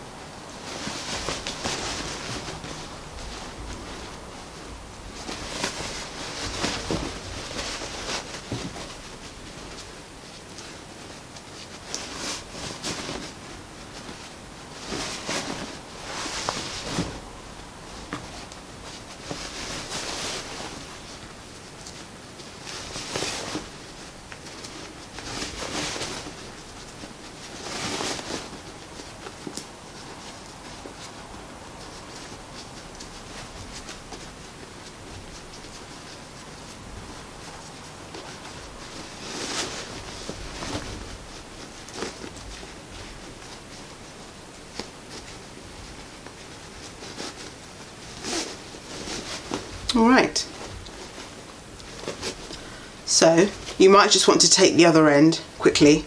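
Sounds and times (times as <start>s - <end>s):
fabric rustling and scrunching: 0.0s - 56.0s.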